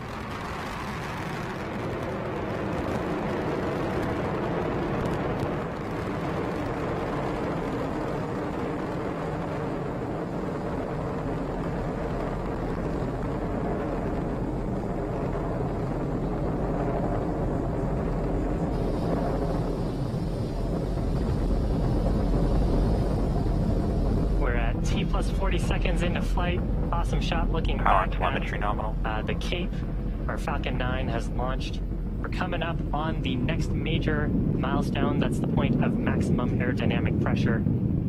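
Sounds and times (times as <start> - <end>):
rocket engines rumbling: 0.0 - 38.0.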